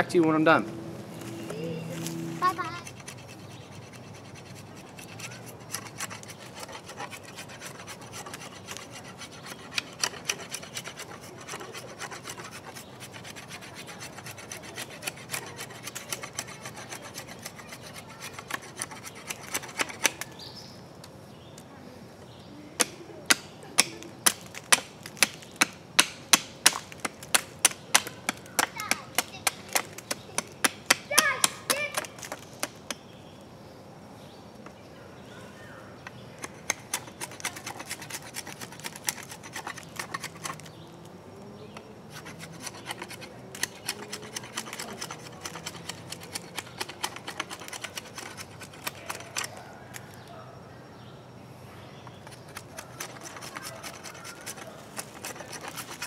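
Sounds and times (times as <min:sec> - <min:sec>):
knife scraping bark: 0:00.6 - 0:20.7, 0:22.8 - 0:33.0, 0:36.0 - 0:40.9, 0:41.7 - 0:50.3, 0:52.1 - 0:56.0.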